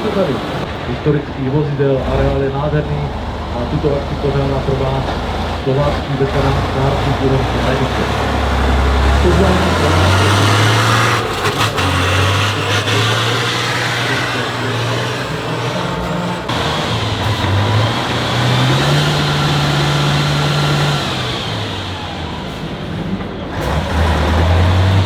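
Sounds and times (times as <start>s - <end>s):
truck engine under load: 0.0s - 25.0s.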